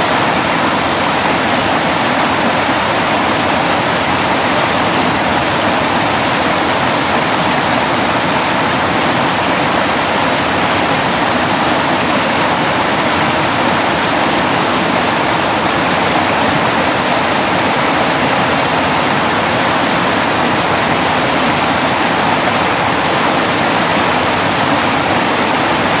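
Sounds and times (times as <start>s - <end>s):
creek rushing over rocks: 0.0s - 26.0s.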